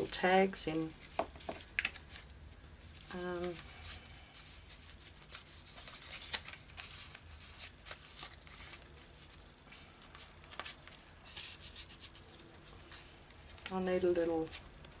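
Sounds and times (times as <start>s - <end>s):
paper and card rustling: 0.0s - 15.0s.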